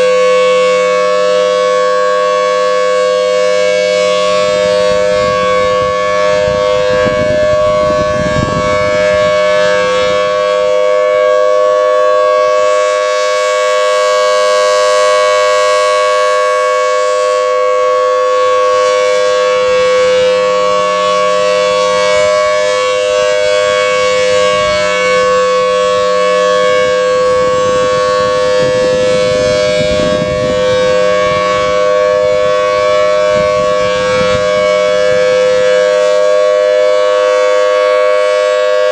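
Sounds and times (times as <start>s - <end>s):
rotating warning siren: 0.0s - 38.9s.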